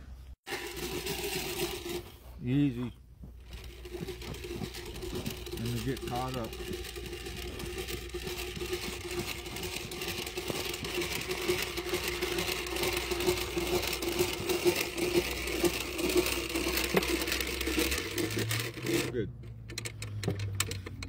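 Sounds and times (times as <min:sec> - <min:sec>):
rope-making machine whirring and rattling: 0:00.5 - 0:02.1, 0:03.3 - 0:19.1.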